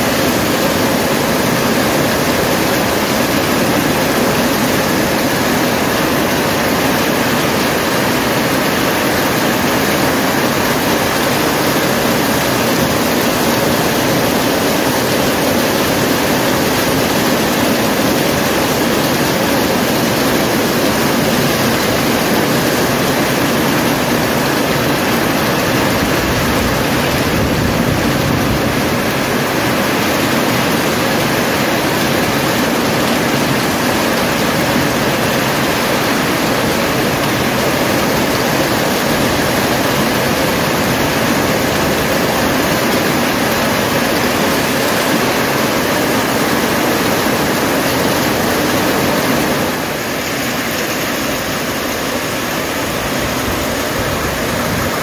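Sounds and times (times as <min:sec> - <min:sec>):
heavy rain on metal roofs: 0:00.0 - 0:55.0.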